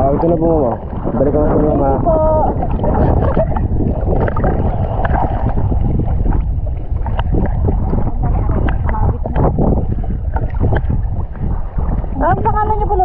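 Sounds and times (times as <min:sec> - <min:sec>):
boat engine rumble: 0:00.0 - 0:13.0
water noise: 0:00.0 - 0:13.0
wind buffeting microphone: 0:00.0 - 0:13.0.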